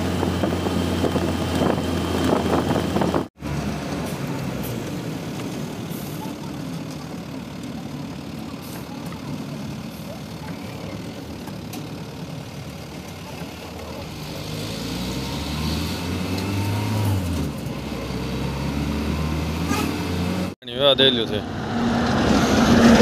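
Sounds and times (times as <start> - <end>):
truck engine running: 0.0 - 20.6
road and tyre noise: 0.0 - 23.0.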